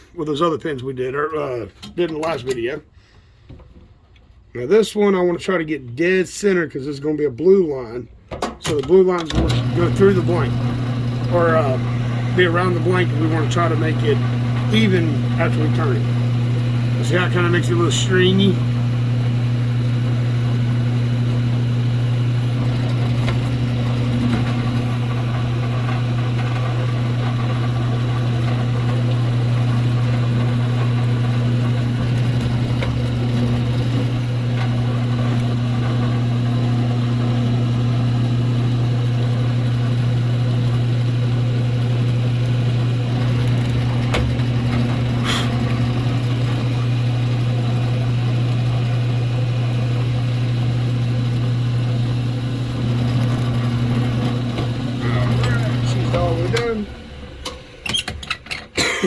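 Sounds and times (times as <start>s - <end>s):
drilling machine motor humming: 8.7s - 59.0s.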